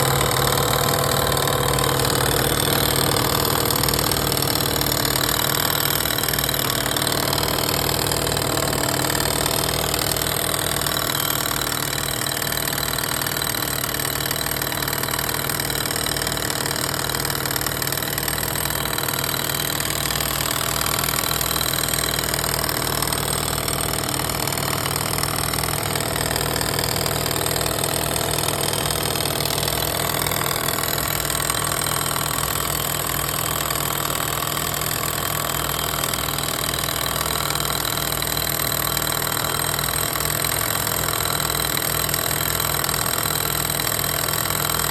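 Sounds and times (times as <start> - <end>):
scooter engine idling: 0.0 - 44.9.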